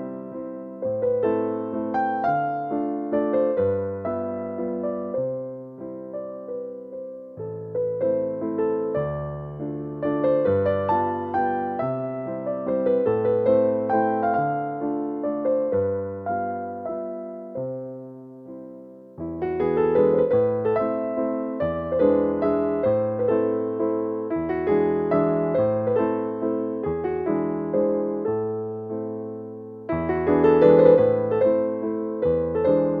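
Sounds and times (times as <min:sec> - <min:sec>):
gentle piano music: 0:00.0 - 0:33.0.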